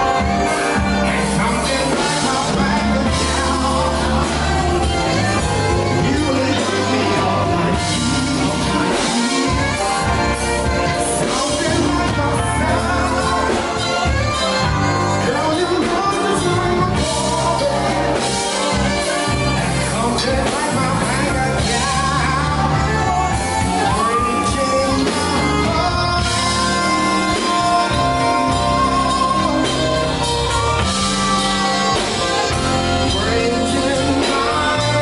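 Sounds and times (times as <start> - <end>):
live rock band: 0.0 - 35.0
singer: 0.0 - 35.0.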